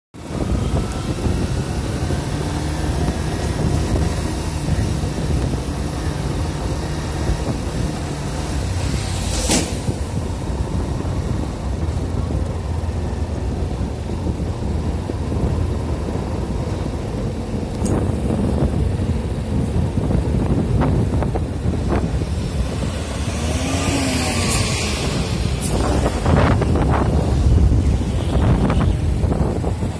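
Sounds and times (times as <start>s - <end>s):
vehicle engines humming: 0.2s - 29.9s
wind rumbling on microphone: 0.2s - 29.9s.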